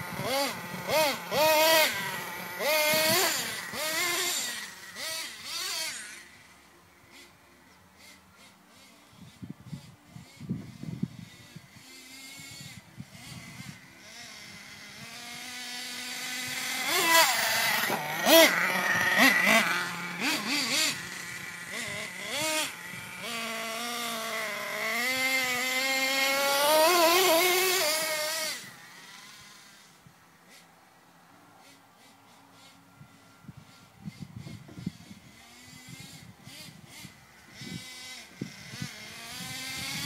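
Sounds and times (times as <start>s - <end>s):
small nitro engine revving: 0.0s - 30.7s, 31.6s - 40.0s.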